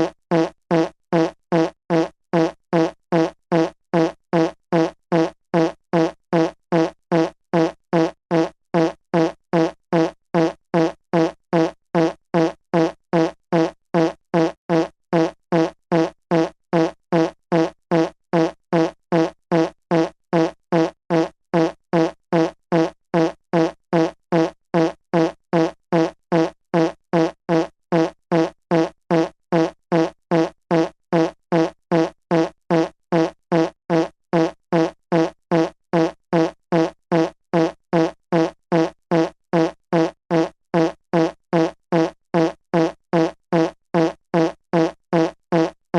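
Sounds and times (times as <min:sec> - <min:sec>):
fart sound effect: 0:00.0 - 0:45.8.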